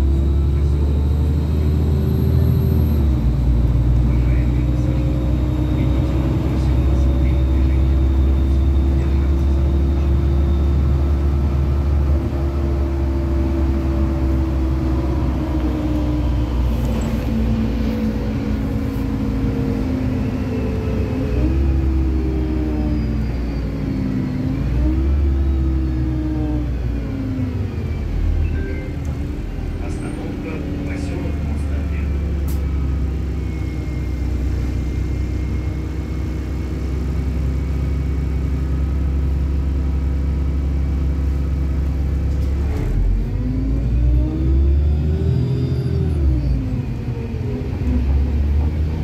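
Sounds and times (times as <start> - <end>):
bus engine rumble: 0.0 - 49.0
road noise: 0.0 - 49.0.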